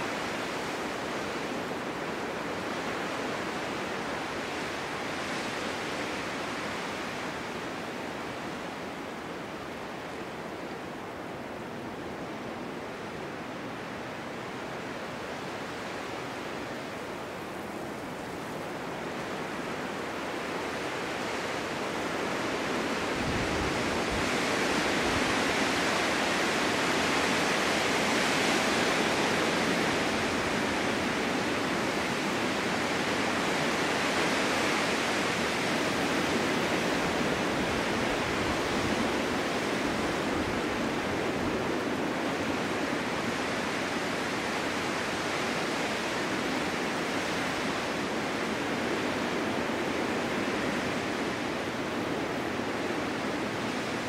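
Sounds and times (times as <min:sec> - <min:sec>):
snowstorm wind blowing: 0:00.0 - 0:54.0.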